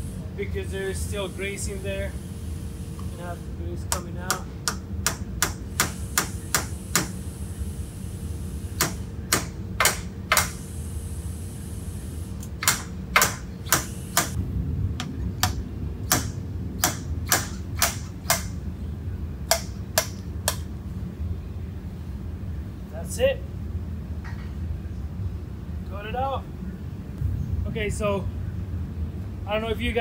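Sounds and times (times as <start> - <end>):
low shop hum: 0.0 - 30.0.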